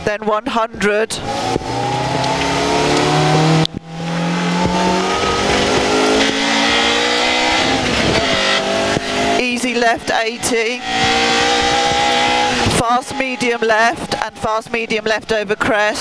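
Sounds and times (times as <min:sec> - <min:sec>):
car engine accelerating: 0:01.2 - 0:16.0
gearshift: 0:01.2 - 0:16.0.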